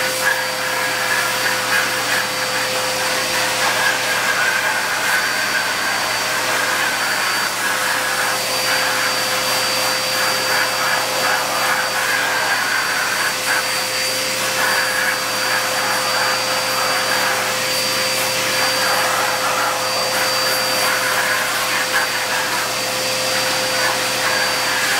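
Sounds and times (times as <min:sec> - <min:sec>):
vacuum cleaner whine: 0:00.0 - 0:24.9.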